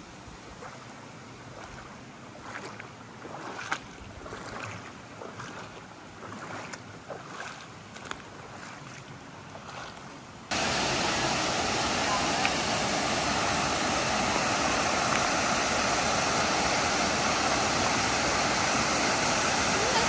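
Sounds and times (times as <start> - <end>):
creek trickling over stones: 0.4 - 20.0.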